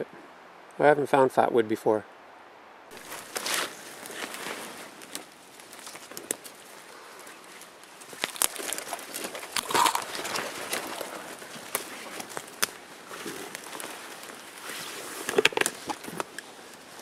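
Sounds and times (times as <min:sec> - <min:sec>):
branches brushing: 0:02.9 - 0:17.0
footsteps through dry underbrush: 0:02.9 - 0:17.0
twigs snapping: 0:02.9 - 0:17.0.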